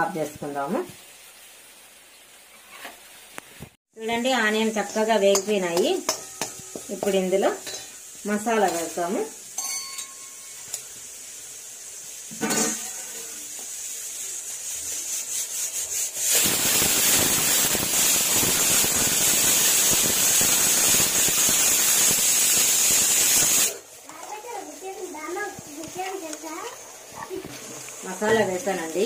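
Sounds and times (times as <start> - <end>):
paste sizzling in hot oil: 0.0 - 29.0.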